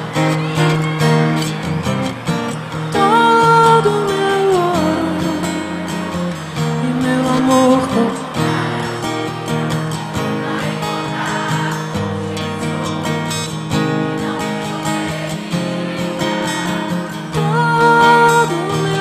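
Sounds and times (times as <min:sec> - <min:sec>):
acoustic guitar strumming chords: 0:00.0 - 0:19.0
person singing: 0:02.8 - 0:13.2, 0:14.0 - 0:19.0.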